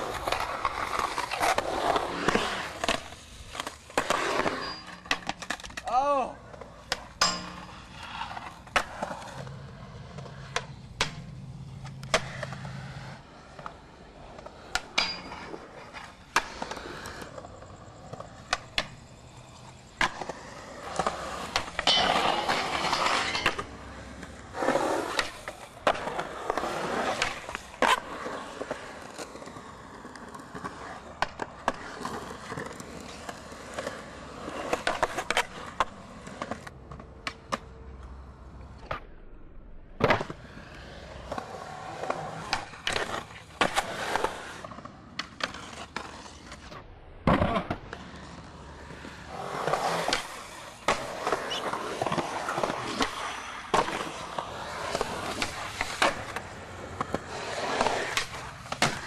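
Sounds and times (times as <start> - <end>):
skateboard grinding on rails: 0.0 - 39.1, 39.8 - 59.0
skateboard clacks: 0.0 - 59.0
skateboard wheels rolling: 0.0 - 59.0.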